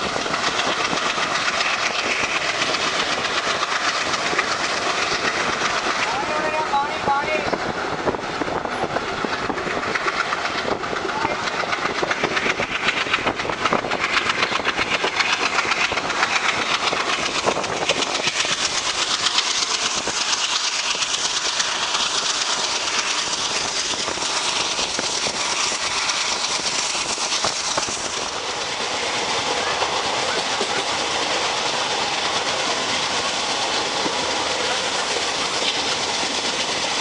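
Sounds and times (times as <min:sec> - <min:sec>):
rushing rail noise: 0:00.0 - 0:37.0
wheel clatter over rail joints: 0:00.0 - 0:37.0.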